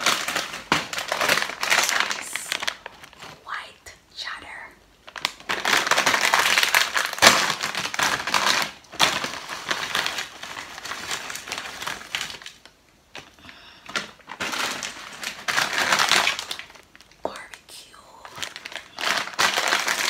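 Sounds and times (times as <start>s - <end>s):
foil chip bag crinkling: 0.0s - 20.0s.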